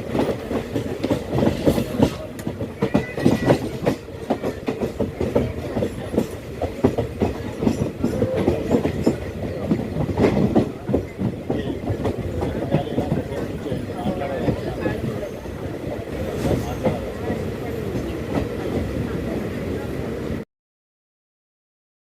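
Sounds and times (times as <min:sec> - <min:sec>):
wheels clickety-clack over rail joints: 0:00.0 - 0:20.1
train rumble: 0:00.0 - 0:20.4.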